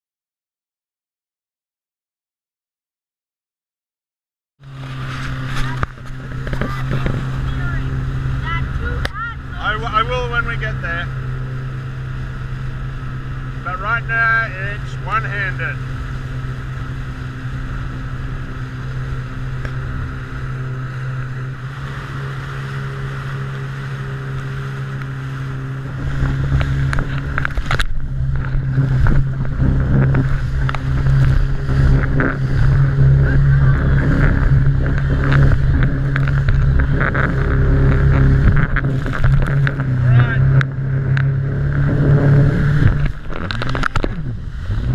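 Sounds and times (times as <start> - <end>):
hull slapping waves: 4.6 - 44.9
jet ski engine running: 4.6 - 44.9
water rushing: 4.6 - 44.9.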